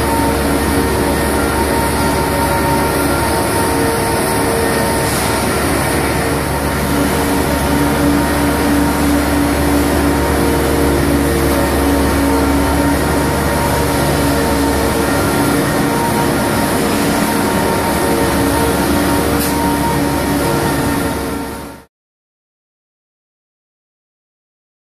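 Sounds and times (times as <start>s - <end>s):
transporter mechanical hum: 0.0s - 21.9s.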